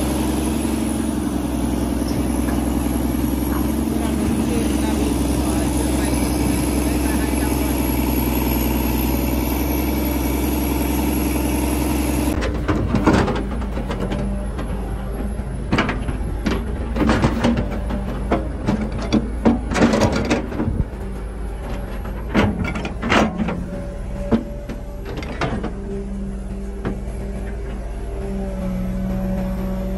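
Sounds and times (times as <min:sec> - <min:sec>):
excavator diesel engine running: 0:00.0 - 0:29.9.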